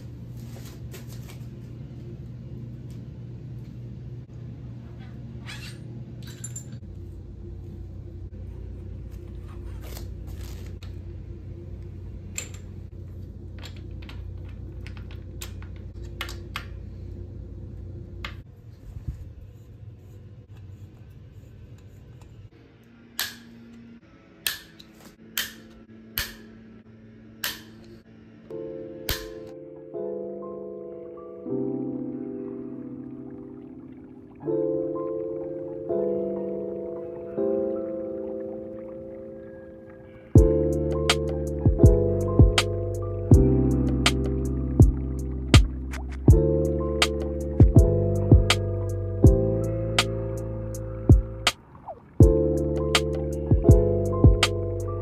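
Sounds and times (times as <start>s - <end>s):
quiet background music: 0.0s - 55.0s.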